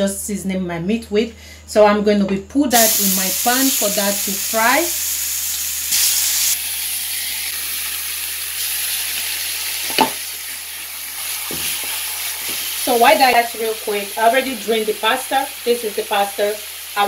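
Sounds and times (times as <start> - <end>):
meat sizzling in a frying pan: 2.8 - 17.0.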